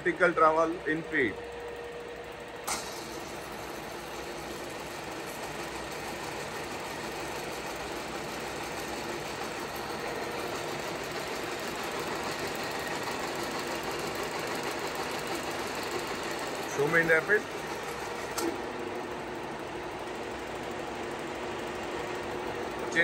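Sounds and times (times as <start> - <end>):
milling machine feed running: 0.0 - 23.0.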